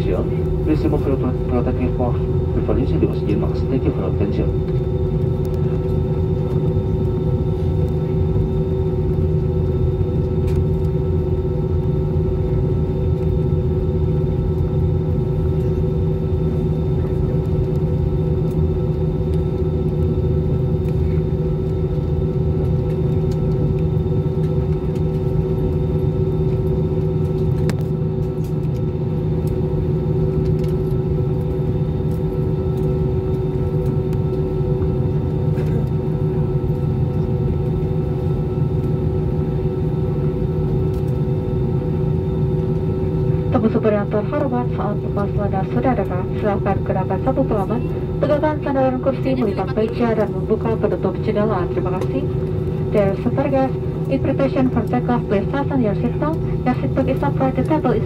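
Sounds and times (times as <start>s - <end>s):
jet engines drone in cabin: 0.0s - 58.0s
steady humming tone: 0.0s - 58.0s.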